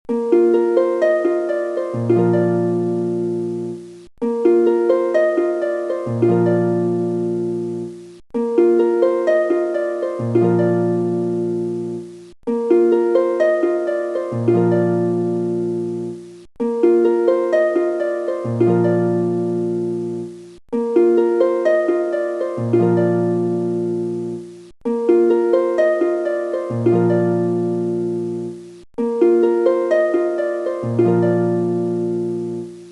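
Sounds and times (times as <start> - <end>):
plucked-string melody loop: 0.0 - 32.9.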